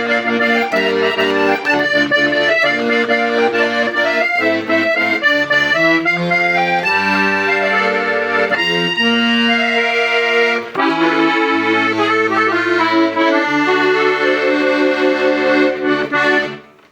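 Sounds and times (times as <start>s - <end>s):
accordion melody with chords: 0.0s - 16.9s.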